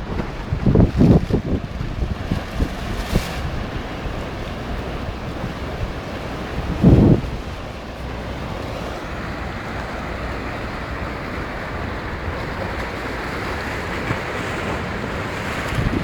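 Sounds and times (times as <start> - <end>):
rough surf rushing: 0.0 - 16.0
wind on microphone: 0.0 - 16.0.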